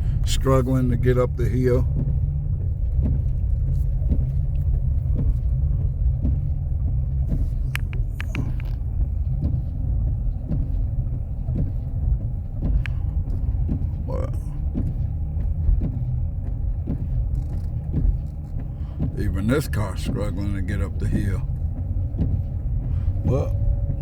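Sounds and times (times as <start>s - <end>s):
car driving low rumble: 0.0s - 24.0s.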